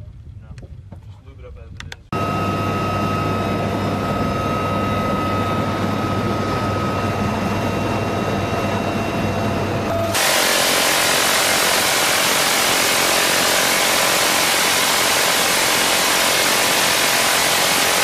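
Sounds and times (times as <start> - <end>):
helicopter rotor and turbine: 2.1 - 18.0.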